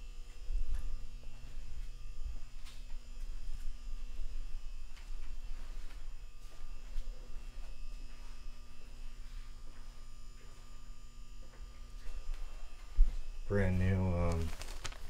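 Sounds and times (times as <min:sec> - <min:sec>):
buzz from powered equipment: 0:00.0 - 0:15.0
electrical mains hum: 0:00.0 - 0:15.0.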